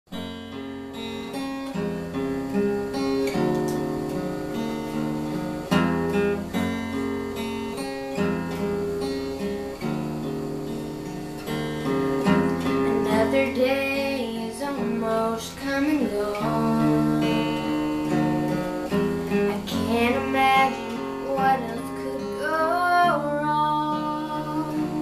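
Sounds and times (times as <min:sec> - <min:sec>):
acoustic guitar playing: 0:00.1 - 0:25.0.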